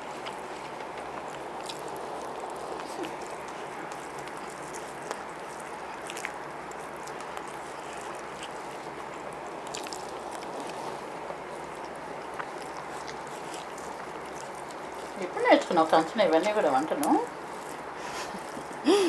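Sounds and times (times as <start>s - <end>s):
hands squelching in rice: 0.0s - 19.0s
room noise hiss: 0.0s - 19.0s.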